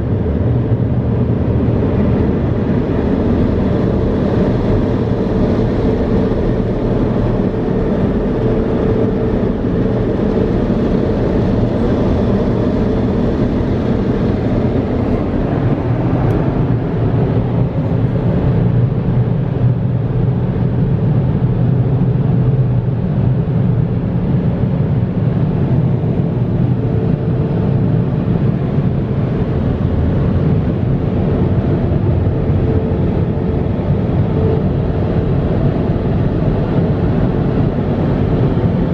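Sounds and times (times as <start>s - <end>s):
car wash machinery running: 0.0s - 38.9s.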